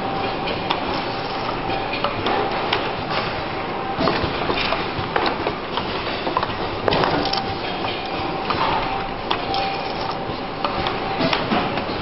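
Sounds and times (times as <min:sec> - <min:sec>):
fixtures clicking and clacking: 0:00.0 - 0:12.0.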